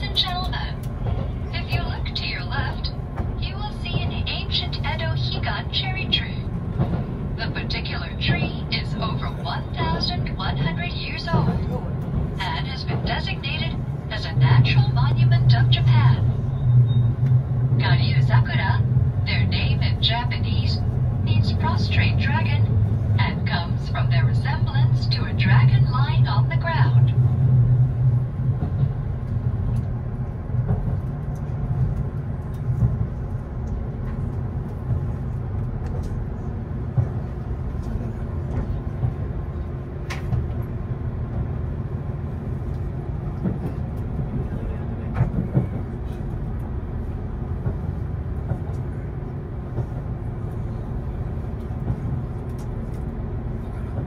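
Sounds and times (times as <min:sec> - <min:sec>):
train cabin rumble: 0:00.0 - 0:54.0.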